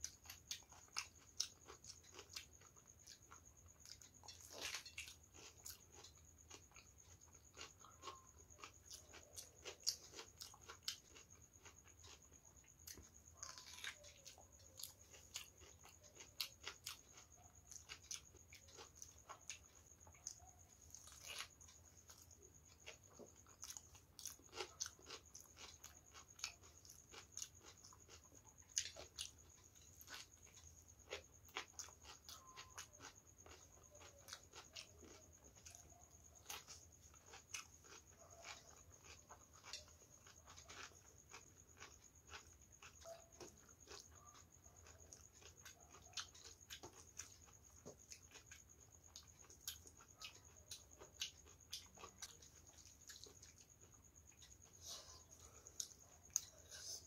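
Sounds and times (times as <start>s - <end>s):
close chewing with wet crunches: 0.0s - 57.0s
faint high-pitched whine: 0.0s - 57.0s.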